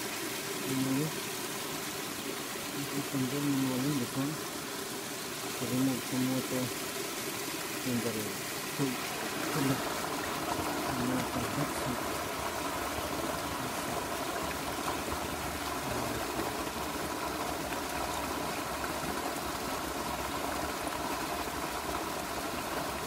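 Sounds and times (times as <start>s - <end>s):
water rushing through dam gate: 0.0s - 23.0s.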